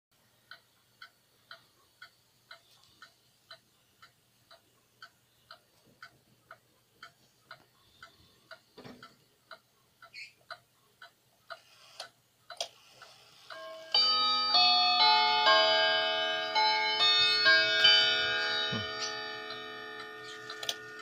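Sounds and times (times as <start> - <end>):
pendulum wall clock ticking: 0.2 - 21.0.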